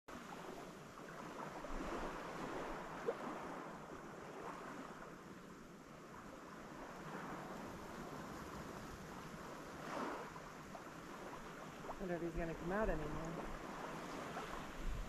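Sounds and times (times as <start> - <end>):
small waves washing on sand: 0.1 - 15.0.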